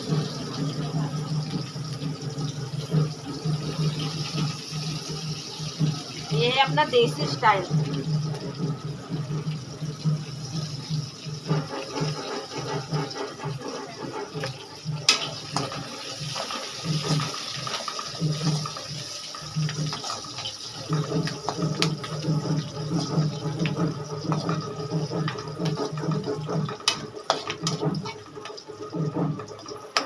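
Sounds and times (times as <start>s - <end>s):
food sizzling in hot oil: 0.0s - 30.0s.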